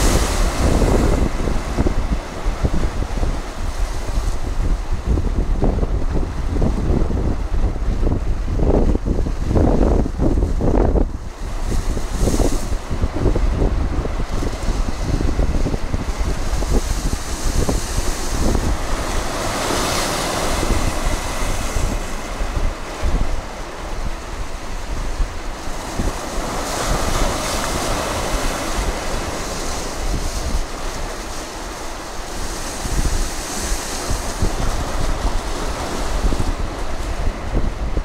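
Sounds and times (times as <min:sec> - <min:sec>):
waves breaking on rocks: 0:00.0 - 0:38.0
wind buffeting microphone: 0:00.0 - 0:38.0.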